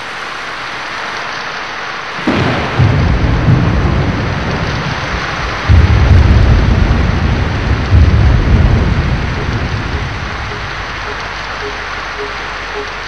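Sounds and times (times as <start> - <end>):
rain hissing: 0.0 - 13.0
thunder rolling: 2.2 - 13.0.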